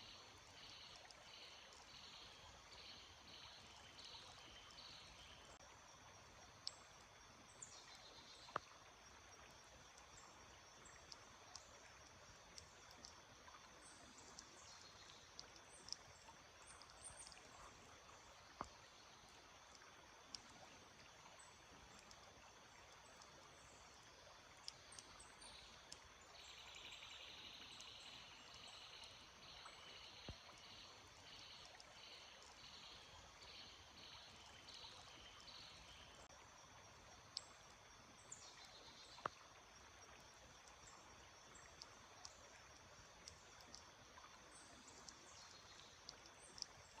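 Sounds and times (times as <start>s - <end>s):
stream trickling: 0.0s - 47.0s.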